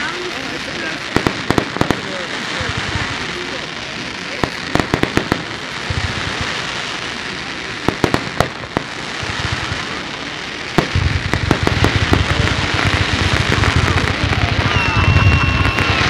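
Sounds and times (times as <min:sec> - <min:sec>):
fireworks crackling hiss: 0:00.0 - 0:16.0
fireworks low booms: 0:00.0 - 0:16.0
fireworks sharp bangs: 0:00.0 - 0:16.0.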